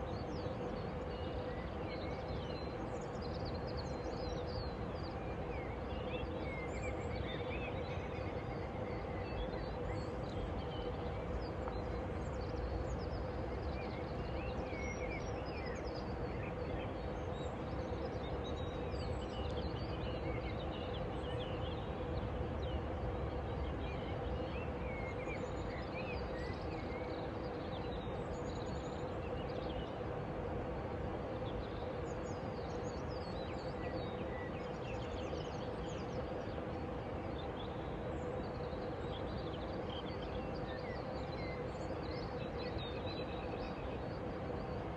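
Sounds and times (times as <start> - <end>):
faint constant hum: 0.0 - 44.9.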